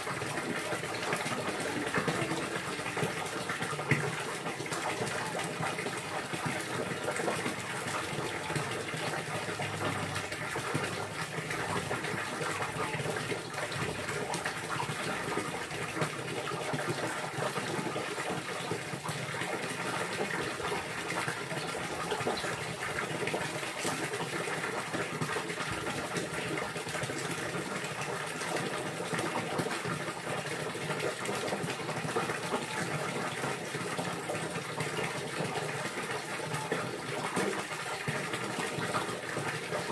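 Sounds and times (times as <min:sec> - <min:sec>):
running water gushing: 0:00.0 - 0:39.9.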